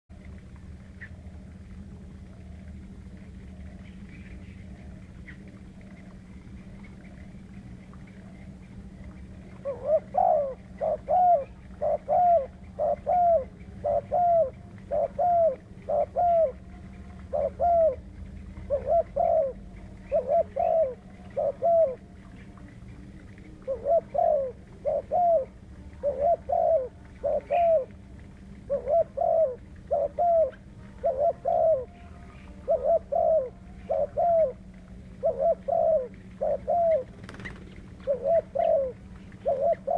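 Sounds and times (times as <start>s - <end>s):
dove cooing: 0.1s - 39.9s
steady low hum: 0.1s - 39.9s.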